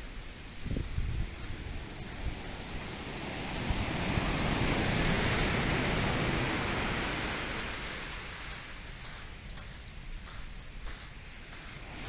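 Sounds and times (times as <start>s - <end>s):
wave breaking on beach: 1.3s - 12.0s.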